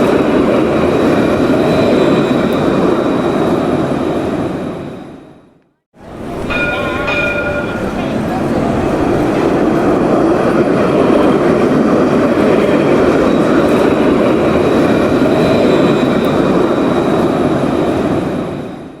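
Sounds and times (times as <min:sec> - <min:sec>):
cable car rumbling on rails: 0:00.0 - 0:19.0.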